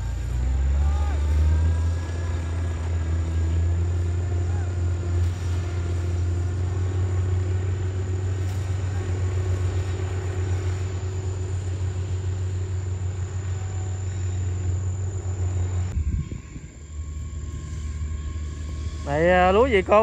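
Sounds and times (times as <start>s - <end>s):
combine harvester diesel drone: 0.0s - 20.0s.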